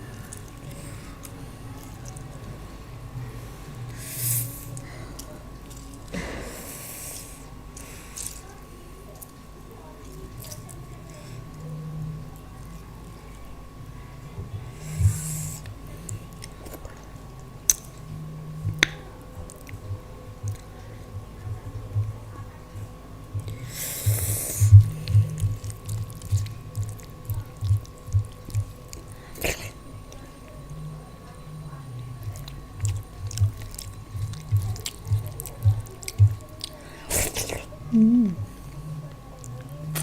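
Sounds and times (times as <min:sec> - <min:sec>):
soft chewing: 0:00.0 - 0:40.0.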